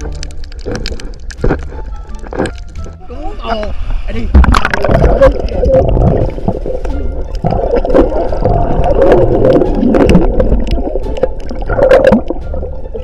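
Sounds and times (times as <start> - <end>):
muffled water sloshing and gurgling: 0.0 - 13.0.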